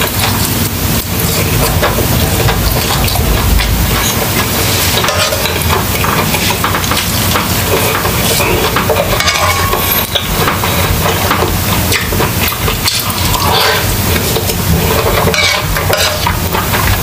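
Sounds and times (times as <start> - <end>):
person chewing and eating: 0.0 - 17.0
spoon clinking and scraping pot: 1.2 - 17.0.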